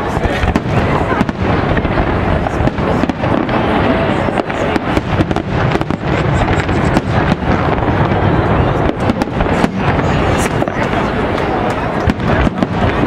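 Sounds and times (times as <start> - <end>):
continuous rumble: 0.0 - 13.0
fireworks bangs and crackles: 0.0 - 13.0.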